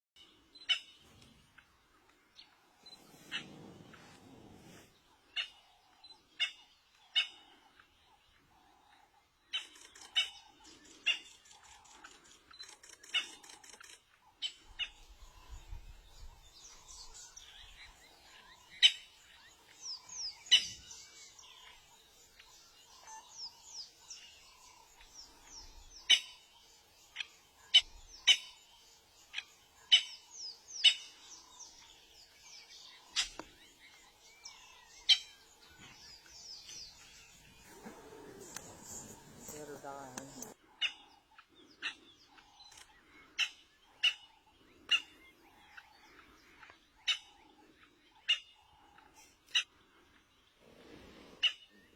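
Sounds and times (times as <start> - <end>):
bird chirping: 0.2 - 51.9.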